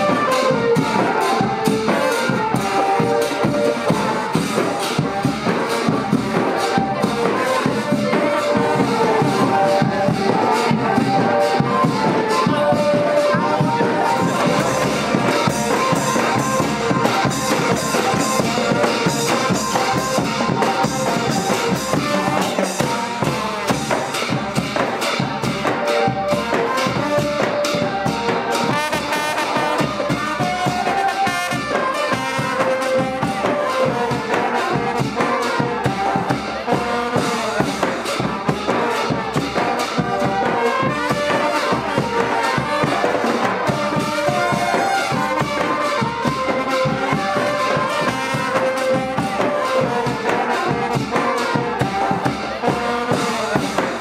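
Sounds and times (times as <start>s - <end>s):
brass band playing: 0.0s - 54.0s.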